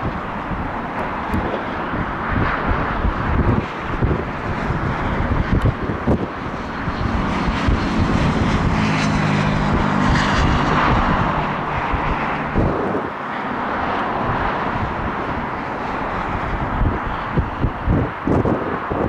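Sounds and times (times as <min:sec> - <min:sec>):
low hum: 0:00.0 - 0:18.1
jet engines rushing drone: 0:00.0 - 0:19.0
wind buffeting microphone: 0:00.0 - 0:19.0.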